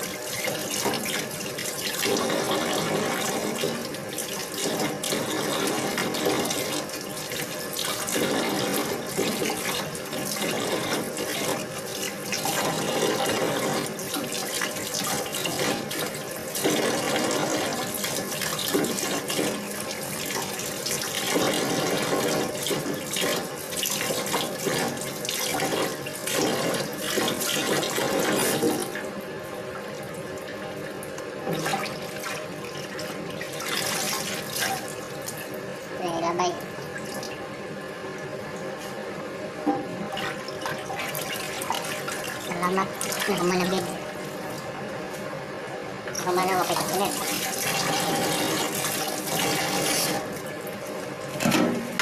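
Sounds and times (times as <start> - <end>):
tap water splashing in a sink: 0.0 - 29.1, 29.7 - 35.6, 39.6 - 44.7, 46.1 - 52.0.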